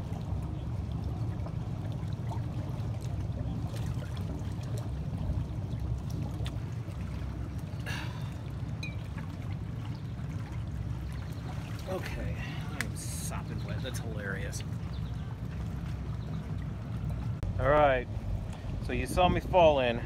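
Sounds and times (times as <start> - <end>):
low wind rumble on microphone: 0.0 - 20.0
water lapping at shoreline: 0.0 - 20.0.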